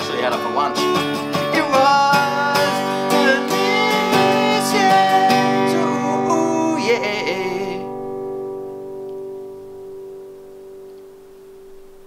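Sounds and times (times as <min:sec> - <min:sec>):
strummed acoustic guitar song: 0:00.0 - 0:12.0.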